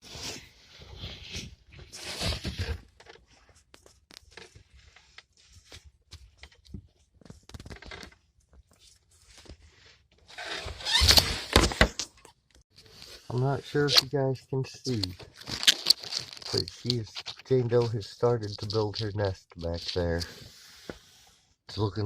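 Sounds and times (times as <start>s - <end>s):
rustling and scraping: 0.0s - 14.3s, 14.9s - 21.4s.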